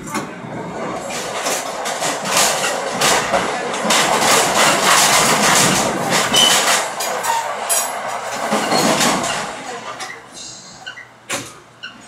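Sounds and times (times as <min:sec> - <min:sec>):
train wheels rumbling on track: 0:00.0 - 0:11.8
rail joint clacks: 0:00.0 - 0:12.0.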